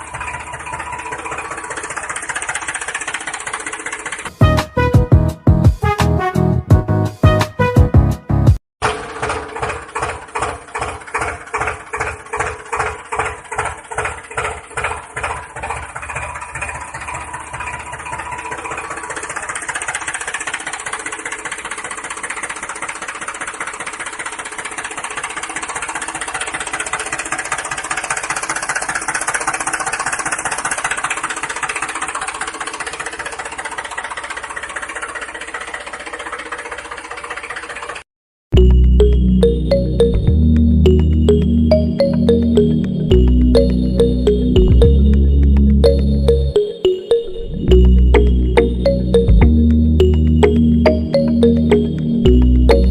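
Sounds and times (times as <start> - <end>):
engine chugging: 0.0 - 6.3, 8.8 - 38.0, 38.6 - 52.9.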